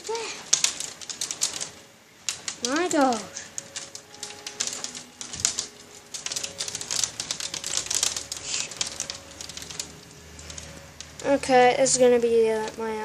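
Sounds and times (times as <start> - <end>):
hailstones pelting: 0.0 - 13.0.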